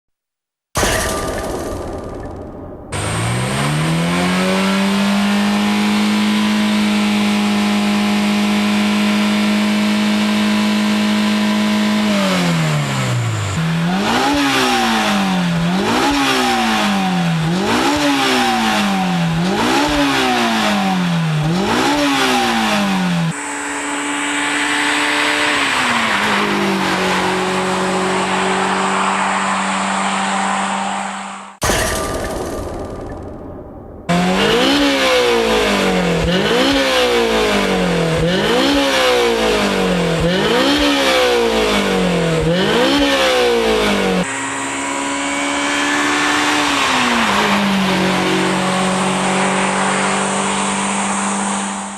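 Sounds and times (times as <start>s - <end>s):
car engine revving: 0.8s - 31.6s, 32.4s - 51.9s.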